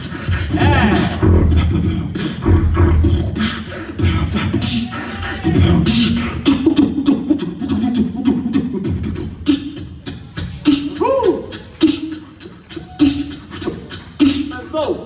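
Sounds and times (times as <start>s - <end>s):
human beatbox: 0.0s - 15.0s.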